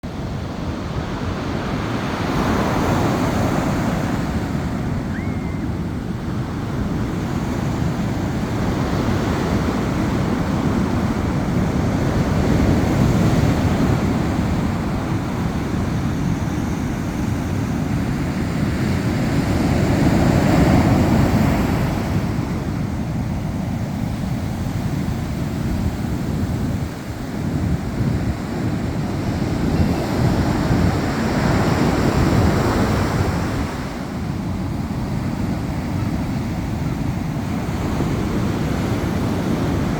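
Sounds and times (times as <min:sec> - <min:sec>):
wind buffeting microphone: 0:00.0 - 0:39.9
ocean surf breaking on beach: 0:00.1 - 0:39.9.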